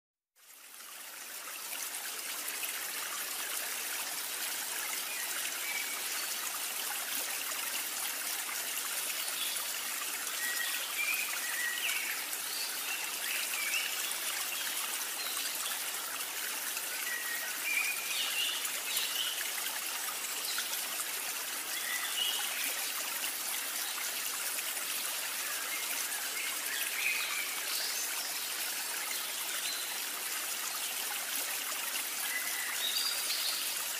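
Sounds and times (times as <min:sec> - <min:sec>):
stream flowing: 0:00.4 - 0:33.9.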